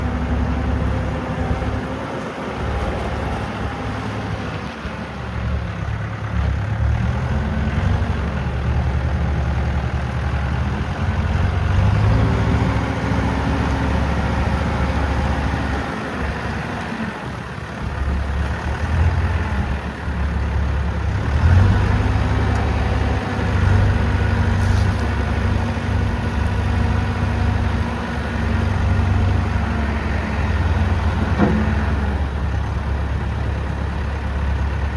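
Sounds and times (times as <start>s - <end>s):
backhoe diesel engine revving: 0.0s - 34.9s.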